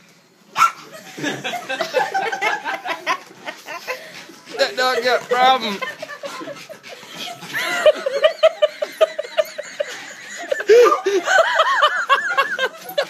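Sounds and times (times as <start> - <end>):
people laughing: 0.9 - 13.0.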